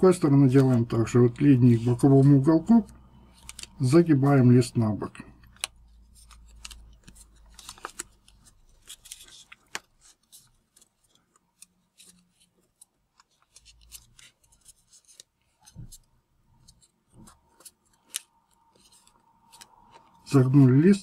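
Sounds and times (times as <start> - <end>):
paper crackling as folded: 0.0 - 4.6, 5.4 - 20.8.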